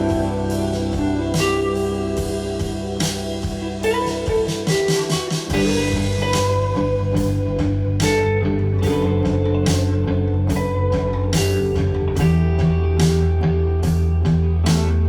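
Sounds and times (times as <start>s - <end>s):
bass guitar: 0.0s - 15.0s
drum kit: 0.0s - 15.0s
electric guitars: 0.0s - 15.0s.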